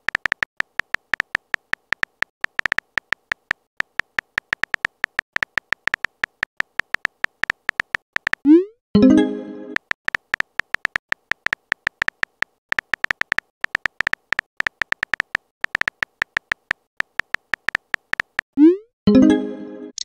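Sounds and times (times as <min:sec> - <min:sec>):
phone keyboard tapping clicks: 0:00.0 - 0:08.5, 0:09.8 - 0:18.5.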